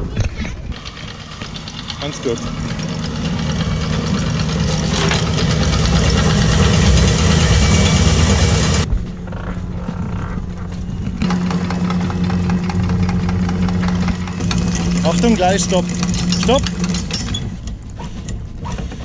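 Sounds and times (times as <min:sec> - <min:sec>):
anchor chain clattering: 0:00.5 - 0:08.4, 0:11.2 - 0:18.9
boat engine idling: 0:00.6 - 0:19.0.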